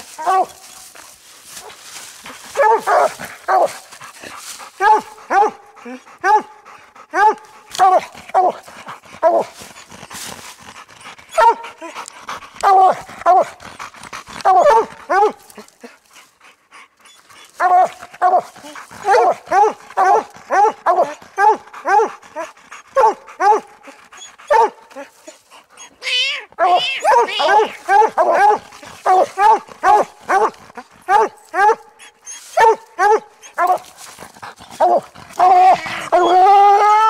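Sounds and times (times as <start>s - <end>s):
hounds barking: 0.0s - 0.9s, 2.4s - 10.3s, 11.3s - 15.6s, 17.6s - 25.1s, 26.6s - 37.0s.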